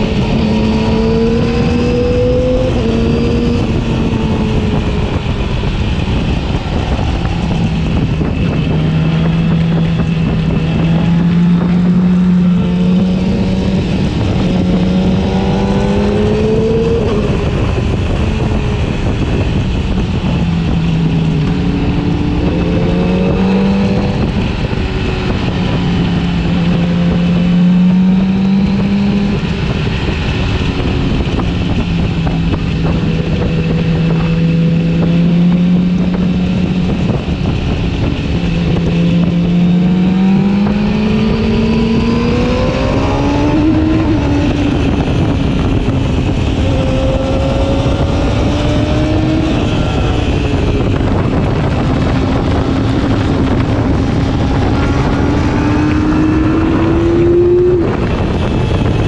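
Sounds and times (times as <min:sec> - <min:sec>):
motorcycle engine accelerating: 0:00.0 - 0:59.0
wind and road noise: 0:00.0 - 0:59.0.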